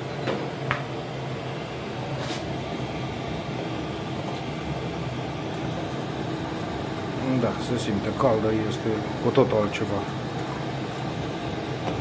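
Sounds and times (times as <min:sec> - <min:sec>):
air heater humming: 0:00.0 - 0:12.0.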